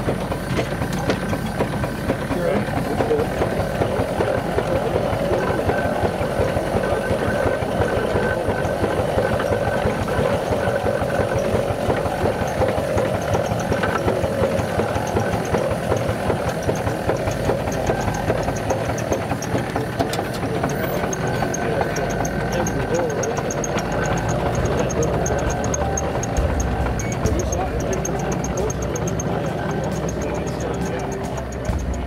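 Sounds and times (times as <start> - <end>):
steam traction engine running: 0.0 - 32.0.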